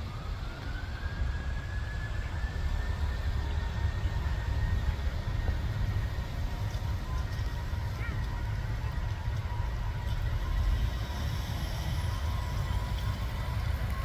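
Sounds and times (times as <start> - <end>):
jet engine whine: 0.0 - 14.0.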